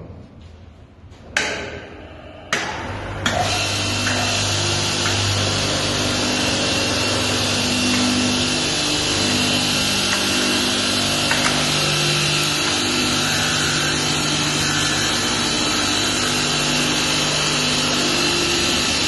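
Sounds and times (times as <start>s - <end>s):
belt grinder running: 3.2s - 19.0s.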